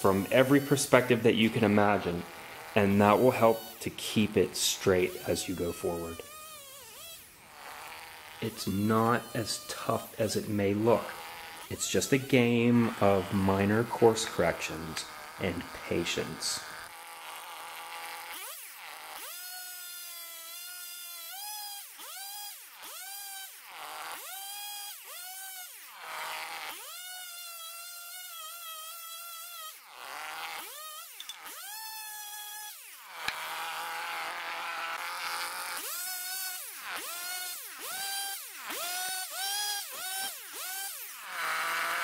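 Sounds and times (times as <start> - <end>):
chainsaw cutting log: 0.0 - 42.0.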